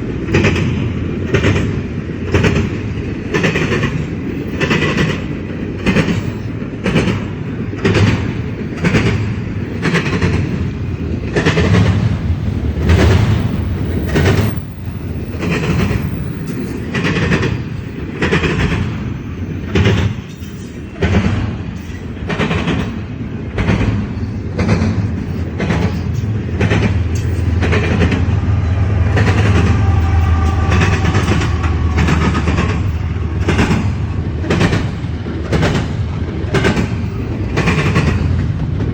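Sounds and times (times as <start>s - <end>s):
train rumble: 0.0s - 38.9s
train wheels clacking on rail joints: 0.0s - 38.9s.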